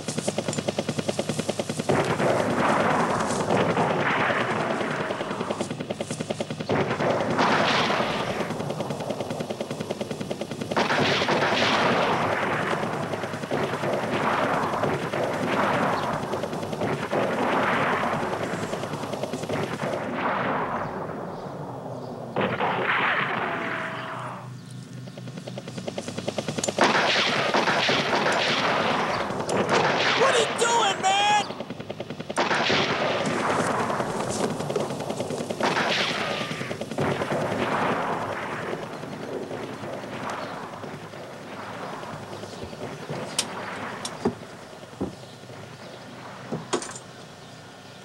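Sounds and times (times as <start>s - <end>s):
rapid automatic gunfire: 0.0s - 20.6s, 25.6s - 44.0s.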